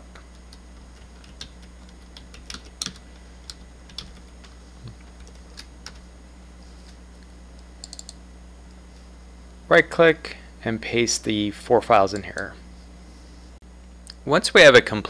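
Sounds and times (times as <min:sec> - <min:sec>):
faint steady low hum: 0:00.0 - 0:15.0.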